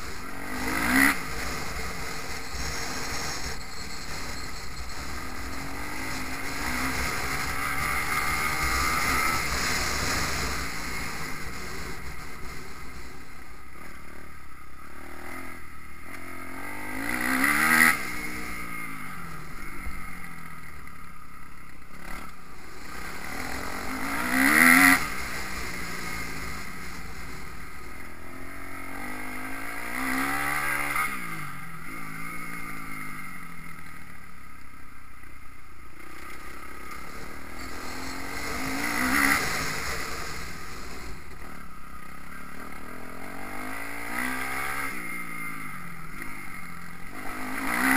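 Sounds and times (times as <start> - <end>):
motocross bike engines revving: 0.0 - 34.6, 35.8 - 47.9.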